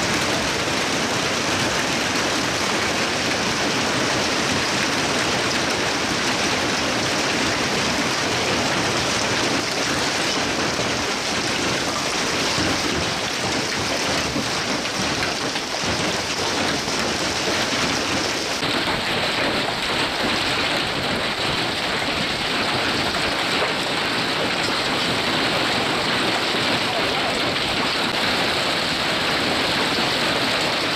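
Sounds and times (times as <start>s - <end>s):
hail and heavy rain on pavement: 0.0s - 30.9s.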